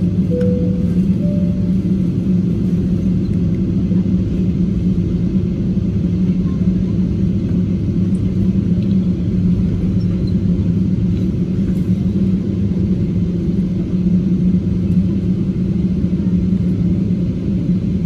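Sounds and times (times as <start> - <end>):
constant low hum: 0.0 - 18.0
engine and wheels rumble: 0.0 - 18.0.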